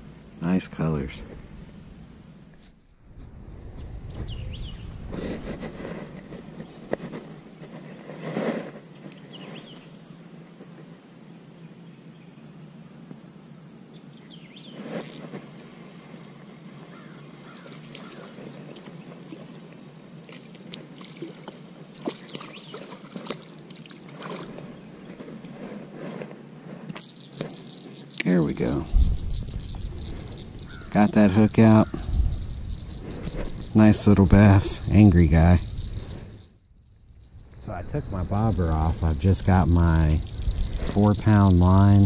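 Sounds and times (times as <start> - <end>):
insect trilling: 0.0 - 42.0.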